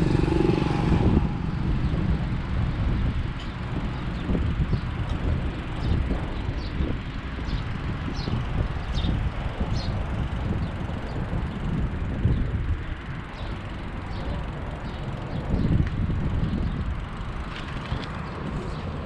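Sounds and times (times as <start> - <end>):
bicycle rolling noise: 0.0 - 19.0
wind buffeting microphone: 0.0 - 19.0.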